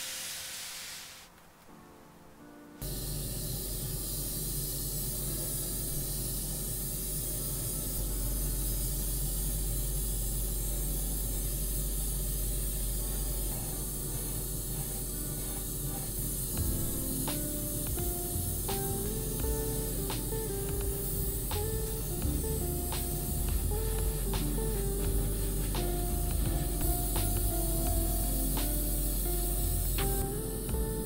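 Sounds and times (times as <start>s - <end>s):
airbrush spraying hiss: 0.0s - 1.5s, 2.8s - 31.0s
extractor fan running: 2.8s - 31.0s.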